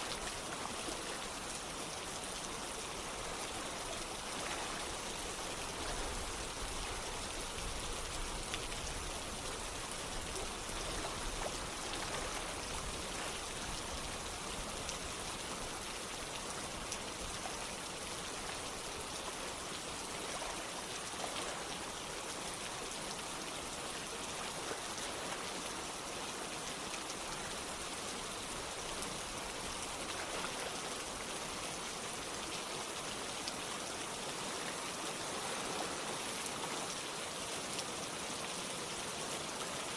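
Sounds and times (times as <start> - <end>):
running water: 0.0 - 39.9
steady rain: 0.0 - 39.9.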